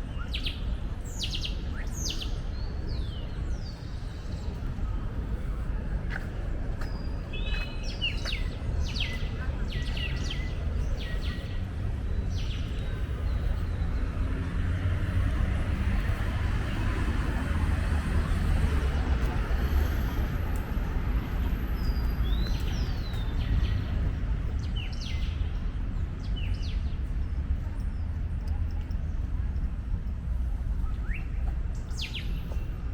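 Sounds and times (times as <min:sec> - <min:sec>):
low rumble of traffic: 0:00.0 - 0:32.9.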